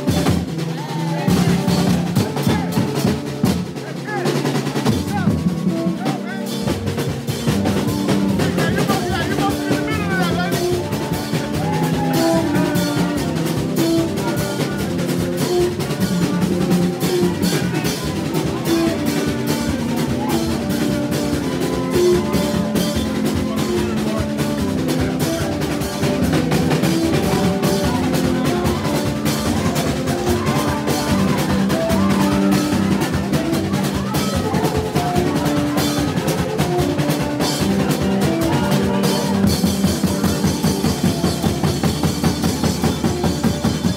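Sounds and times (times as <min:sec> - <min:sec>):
bamboo trumpets held notes: 0:00.0 - 0:43.9
hand drums beating: 0:00.0 - 0:43.9.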